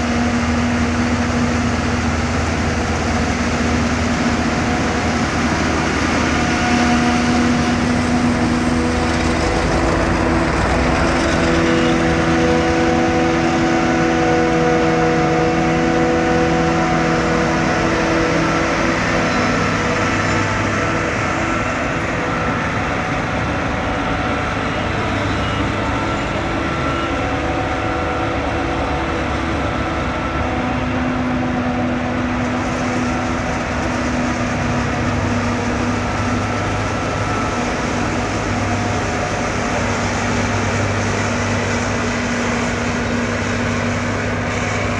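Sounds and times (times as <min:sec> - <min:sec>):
tractor running: 0:00.0 - 0:44.9.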